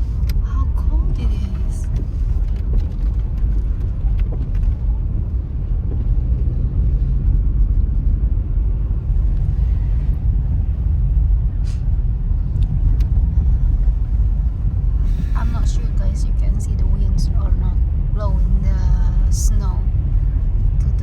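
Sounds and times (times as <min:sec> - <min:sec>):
car engine and road noise: 0:00.0 - 0:21.0
wind: 0:00.0 - 0:21.0.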